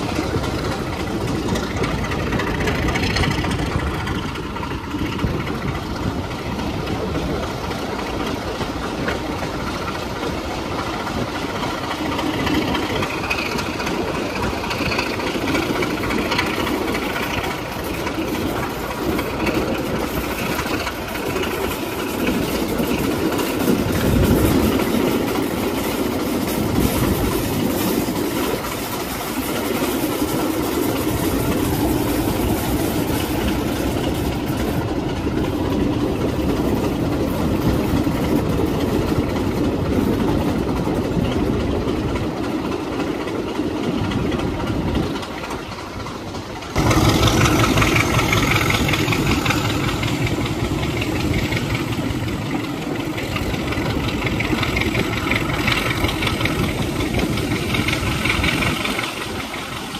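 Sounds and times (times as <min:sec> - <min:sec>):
diesel locomotive engine running: 0:00.0 - 0:59.9
train running on track: 0:00.0 - 0:59.9.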